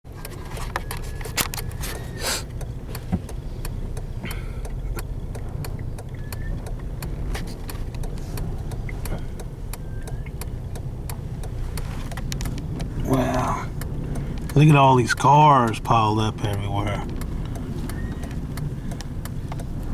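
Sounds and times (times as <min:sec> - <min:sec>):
car road and engine rumble: 0:00.0 - 0:19.9
short sharp ticks: 0:00.2 - 0:19.9.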